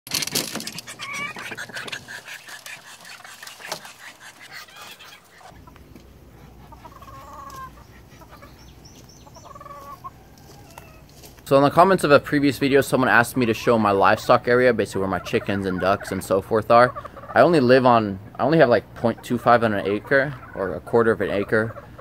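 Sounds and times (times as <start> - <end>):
chickens clucking and calling: 0.1 - 22.0.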